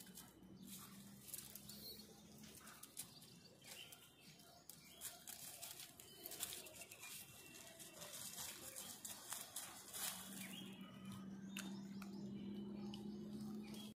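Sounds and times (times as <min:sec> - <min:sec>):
crackles of leaves and twigs: 0:00.0 - 0:13.9
rustling of dry leaves: 0:00.0 - 0:13.9.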